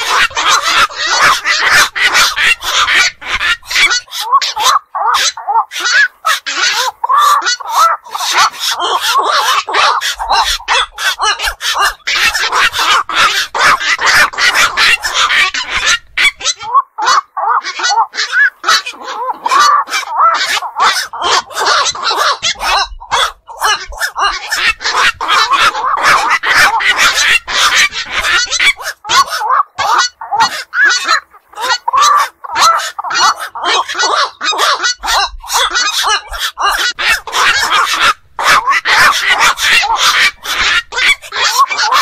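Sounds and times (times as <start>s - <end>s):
herons croaking calls: 0.0s - 42.0s.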